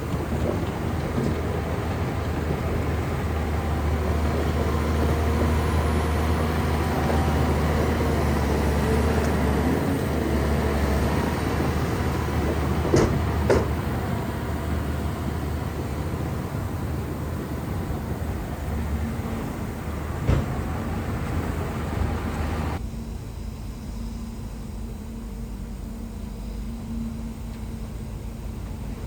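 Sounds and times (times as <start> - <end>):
bulldozer diesel engine droning: 0.0 - 29.0.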